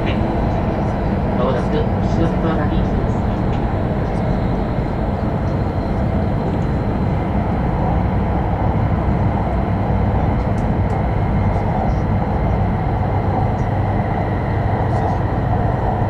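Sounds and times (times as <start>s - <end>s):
high-speed train rumbling: 0.0s - 16.0s.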